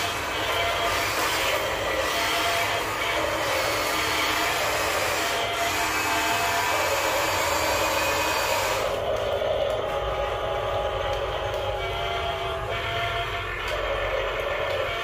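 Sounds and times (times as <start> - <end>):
mechanical whirring: 0.0 - 15.0.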